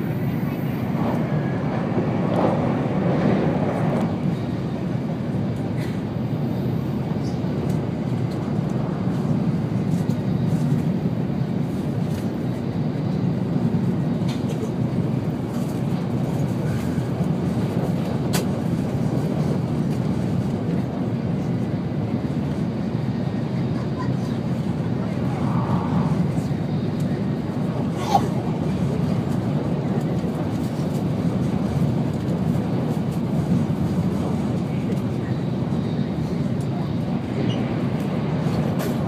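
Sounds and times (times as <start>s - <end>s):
train cabin low rumble: 0.0s - 39.0s.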